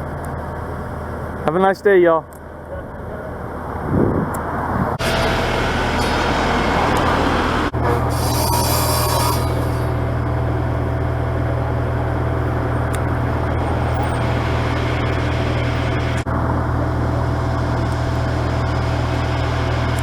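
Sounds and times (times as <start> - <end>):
motor vehicle rumbling: 0.0 - 20.0.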